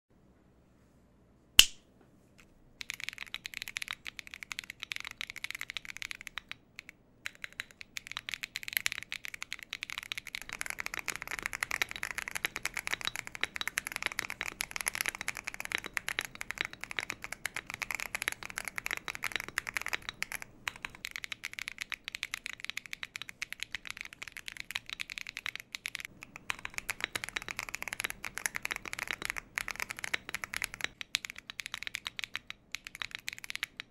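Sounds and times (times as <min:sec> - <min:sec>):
fast typing on mechanical keyboard: 0:02.8 - 0:33.9.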